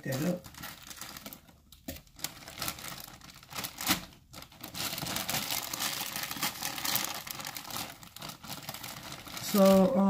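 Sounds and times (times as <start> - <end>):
frozen food crinkling and snapping: 0.0 - 10.0.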